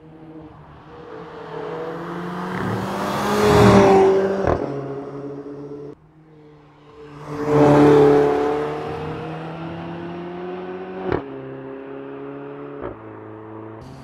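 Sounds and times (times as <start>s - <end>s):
car engine at high revs passing: 0.0s - 14.0s.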